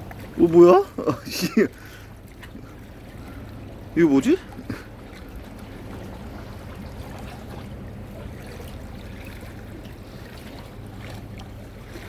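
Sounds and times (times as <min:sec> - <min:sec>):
low steady rumble: 0:00.0 - 0:12.0
water trickling and lapping: 0:00.0 - 0:12.0.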